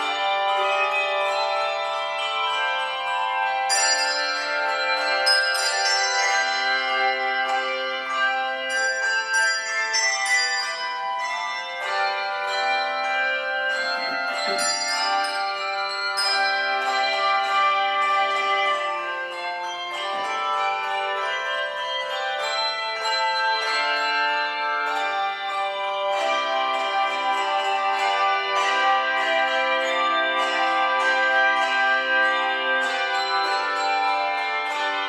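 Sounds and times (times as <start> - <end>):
handbells ringing: 0.0 - 35.0.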